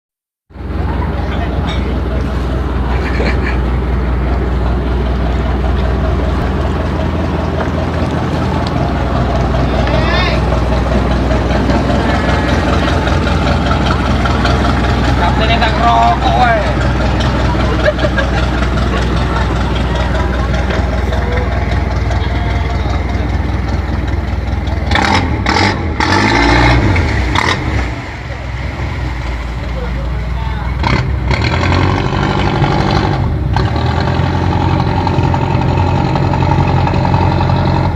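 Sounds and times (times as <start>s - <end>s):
boat diesel engine droning: 0.5s - 37.9s.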